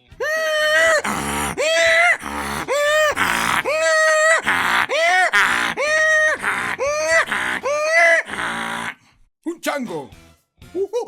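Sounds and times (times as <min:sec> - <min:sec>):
man imitating donkey bray: 0:00.0 - 0:09.0.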